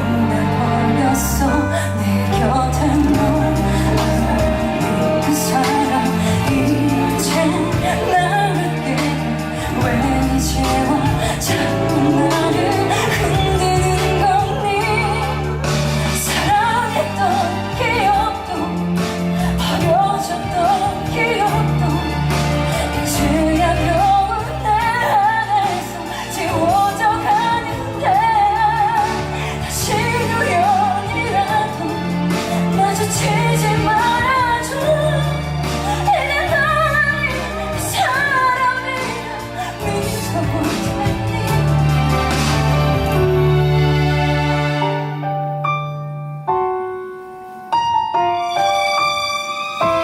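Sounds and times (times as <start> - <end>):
woman singing with vibrato: 0.0 - 42.6
instrumental accompaniment: 0.0 - 50.0.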